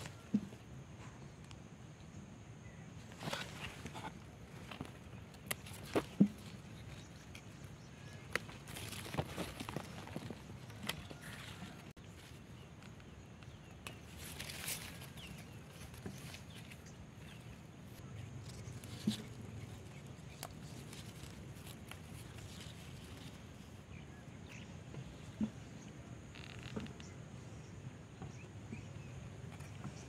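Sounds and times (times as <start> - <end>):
rustling of plants: 0.0 - 2.0, 2.6 - 30.0.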